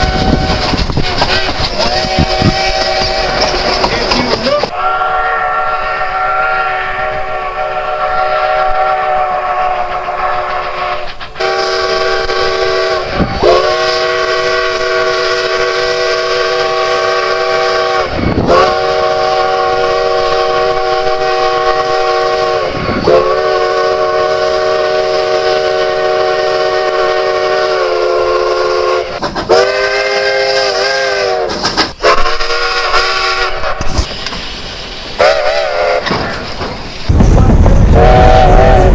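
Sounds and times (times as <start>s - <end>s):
steam locomotive whistle blasts: 0.0s - 3.7s, 4.6s - 34.1s, 35.2s - 36.5s, 37.8s - 38.9s.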